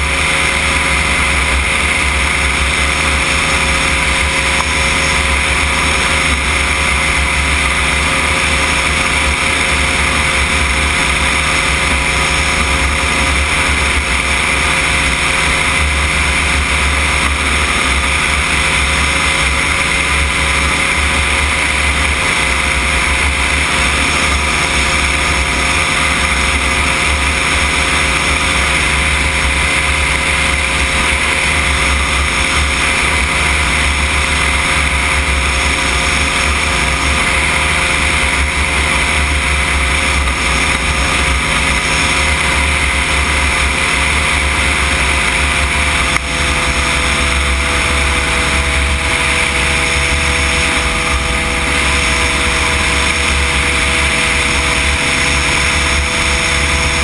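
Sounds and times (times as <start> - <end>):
engine and propeller running: 0.0 - 57.0.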